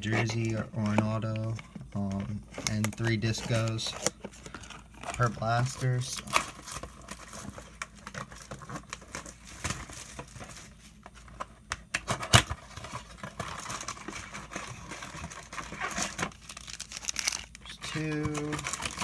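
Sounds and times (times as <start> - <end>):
plastic wrap crinkling: 0.0 - 11.4, 12.3 - 19.0.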